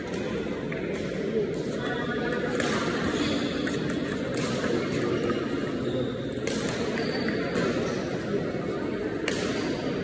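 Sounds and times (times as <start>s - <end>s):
crowd chatter: 0.0s - 10.0s.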